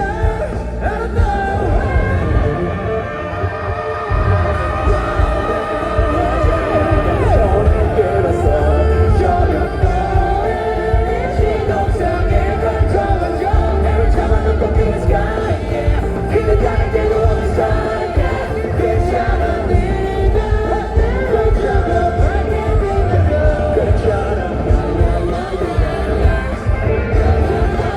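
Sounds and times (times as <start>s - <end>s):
live pop-rock band: 0.0s - 27.9s
person singing: 0.0s - 27.9s.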